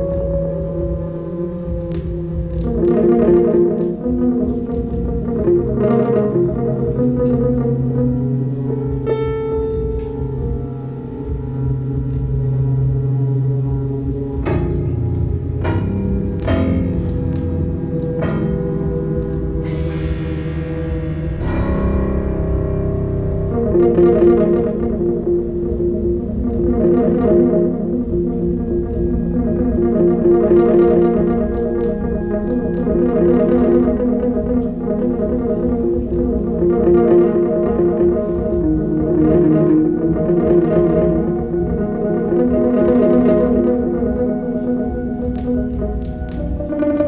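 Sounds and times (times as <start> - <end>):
ambient synthesizer music: 0.0 - 47.0.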